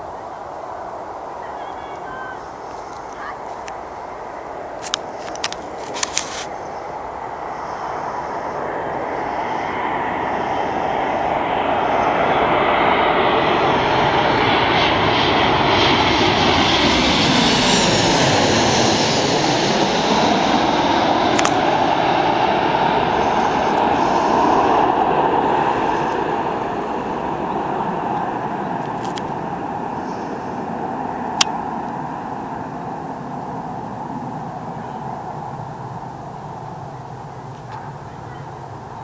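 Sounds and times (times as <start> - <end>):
jet engines roaring overhead: 0.0 - 39.0.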